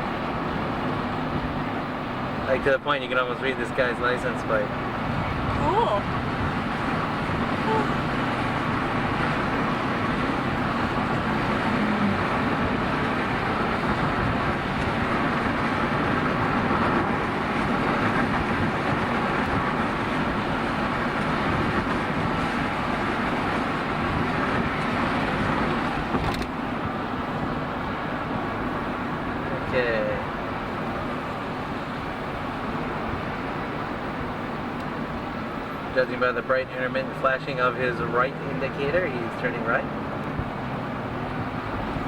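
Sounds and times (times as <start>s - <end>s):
car road and engine noise: 0.0s - 42.0s.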